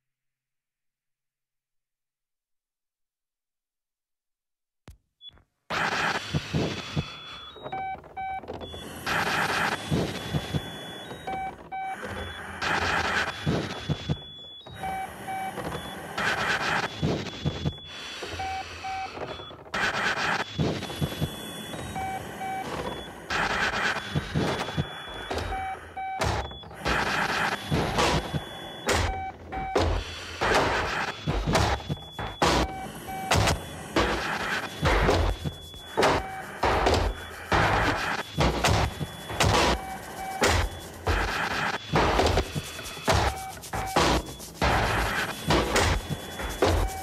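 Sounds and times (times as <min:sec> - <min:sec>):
short electronic beeps: 0:05.2 - 0:47.0
dense noisy electronic bed: 0:05.7 - 0:47.0.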